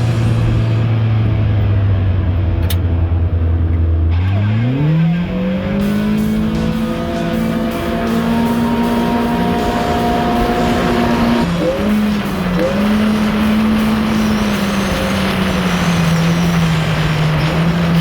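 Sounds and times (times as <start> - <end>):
vehicle engine speeding up: 0.0 - 18.0.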